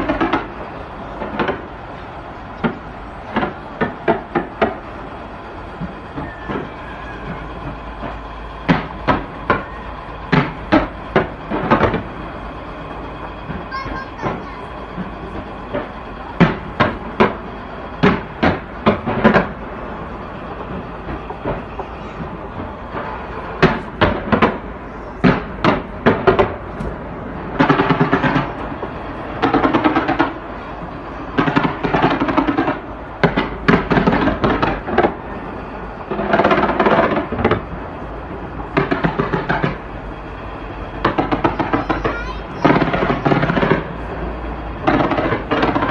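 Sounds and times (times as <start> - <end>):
fireworks bangs: 0.0 - 45.9
fireworks crackling: 0.0 - 45.9.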